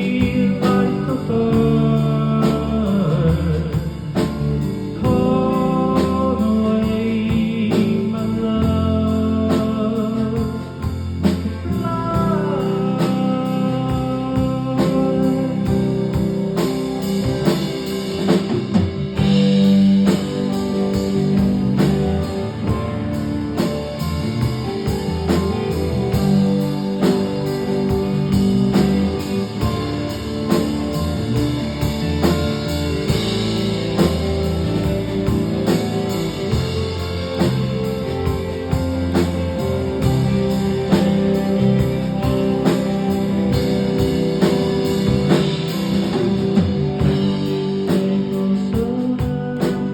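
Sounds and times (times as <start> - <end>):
drum kit beat: 0.0 - 49.9
rock guitar: 0.0 - 49.9.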